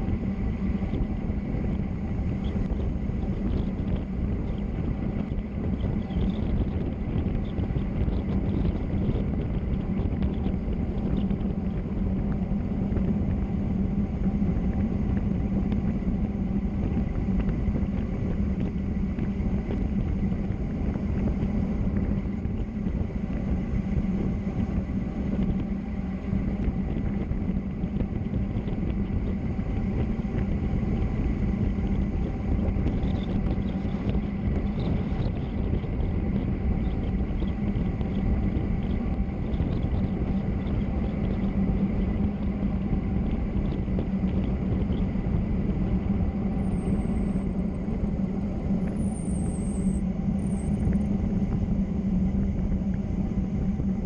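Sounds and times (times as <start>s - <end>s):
low hum: 0.0s - 54.0s
road noise: 0.0s - 54.0s.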